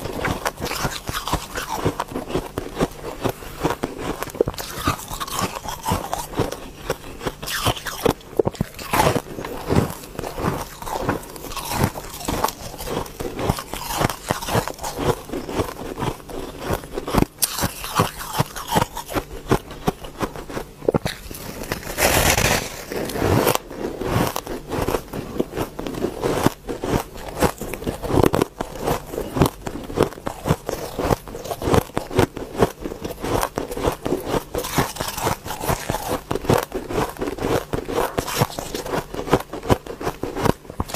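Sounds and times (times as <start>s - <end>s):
crunching ice: 0.0s - 40.9s.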